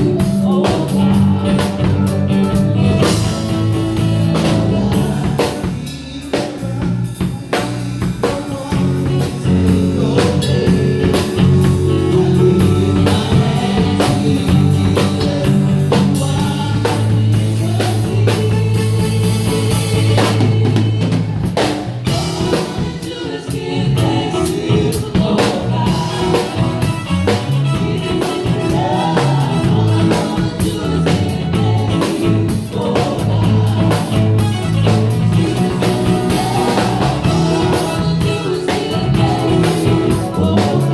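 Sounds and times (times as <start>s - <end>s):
drum kit beats: 0.0s - 40.9s
live band playing: 0.0s - 40.9s.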